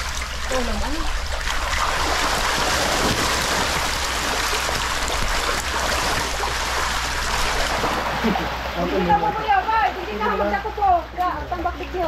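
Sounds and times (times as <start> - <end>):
fish thrashing and splashing: 0.0 - 10.2
person wading through water: 0.0 - 10.7
low steady hum: 0.0 - 12.0.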